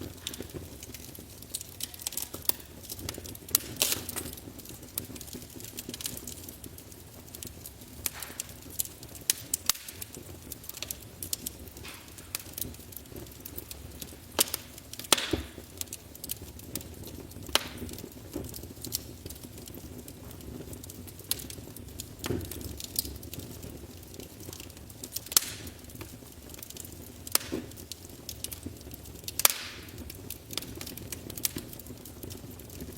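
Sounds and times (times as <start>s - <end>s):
fire crackling and popping: 0.0s - 32.9s
low fire rustle: 0.0s - 32.9s.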